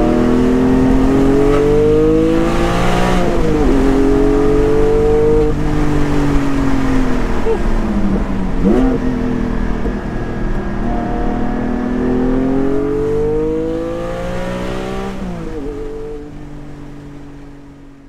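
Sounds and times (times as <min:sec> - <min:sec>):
car engine revving: 0:00.0 - 0:17.5.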